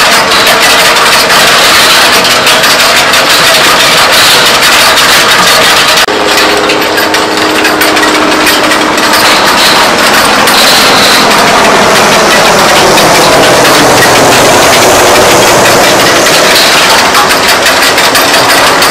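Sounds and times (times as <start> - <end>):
clatter of stones and machinery: 0.0 - 18.9
tractor diesel engine under load: 0.0 - 18.9.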